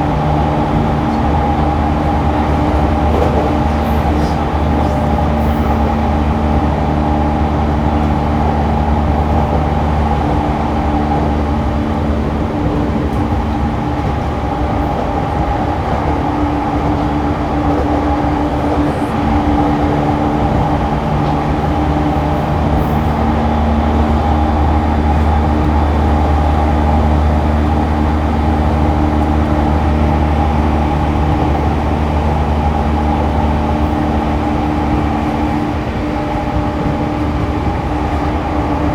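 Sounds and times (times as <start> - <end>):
train electric hum: 0.0 - 38.9
train wheels rumbling on rail: 0.0 - 38.9.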